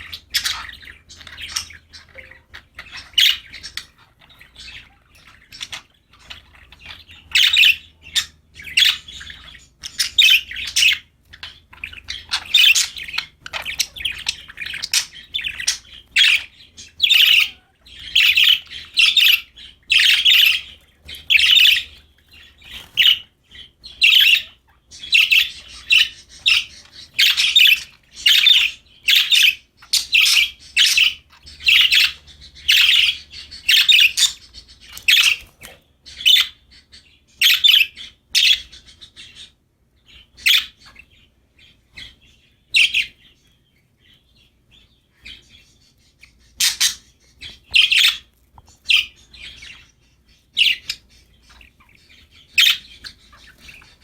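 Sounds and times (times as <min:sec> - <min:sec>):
budgies chirping: 0:00.0 - 0:54.0.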